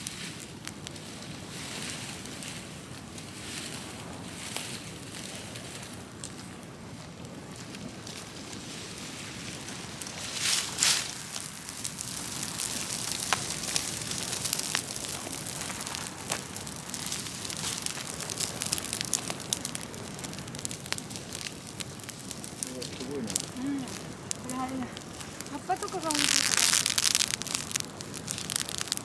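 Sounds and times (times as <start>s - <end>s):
bonfire hissing and crackling: 0.0s - 29.0s
fire flaring with a rush: 0.0s - 29.0s.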